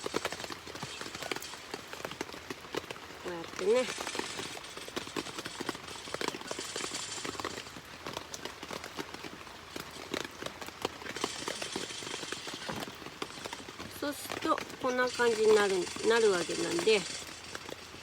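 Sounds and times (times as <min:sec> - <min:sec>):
rain pattering on a tarp: 0:00.0 - 0:18.0.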